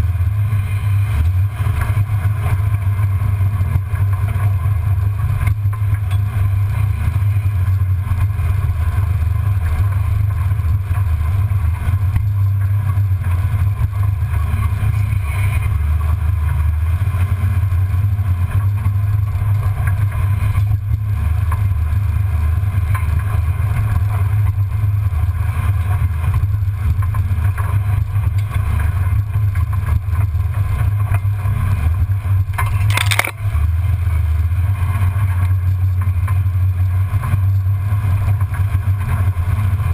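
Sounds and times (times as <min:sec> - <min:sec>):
vehicle rumbling off-road: 0:00.0 - 0:39.9.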